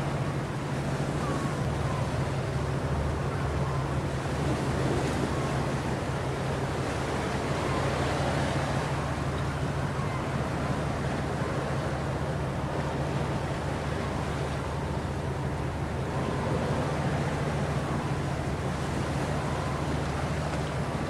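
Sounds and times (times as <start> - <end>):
boat engine droning: 0.0 - 21.0
wind and water noise: 0.0 - 21.0.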